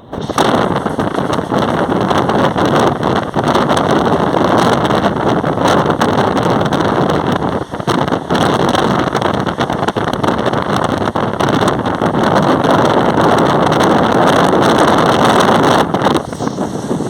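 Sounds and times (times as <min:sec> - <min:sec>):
train wheels on rails: 0:00.0 - 0:17.0
wind on microphone: 0:00.0 - 0:17.0.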